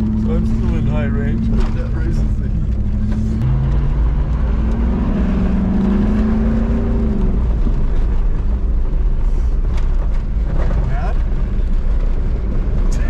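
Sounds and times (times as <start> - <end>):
engine rumbling under throttle: 0.0 - 13.0.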